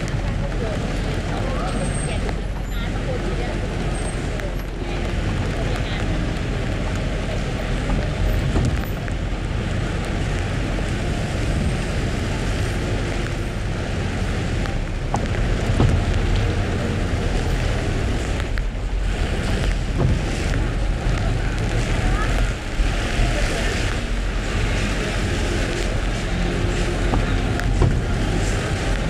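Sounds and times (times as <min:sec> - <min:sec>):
falling rain: 0:00.0 - 0:29.0
tyres hissing on wet road: 0:00.0 - 0:29.0.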